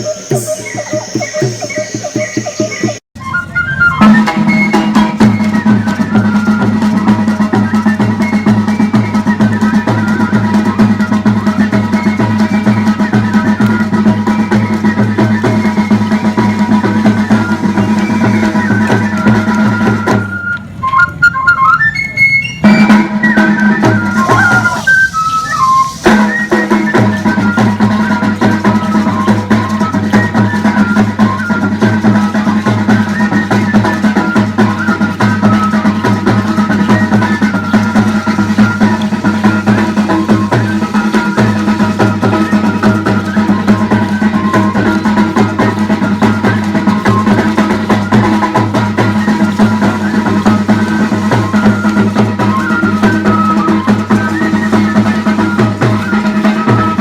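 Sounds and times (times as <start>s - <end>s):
drum beat with snare: 0.0s - 21.7s, 22.6s - 57.0s
high melody in short notes: 0.0s - 57.0s.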